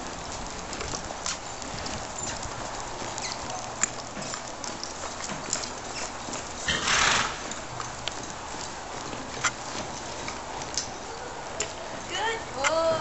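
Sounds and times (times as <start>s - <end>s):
horse hooves on dirt: 0.0s - 13.0s.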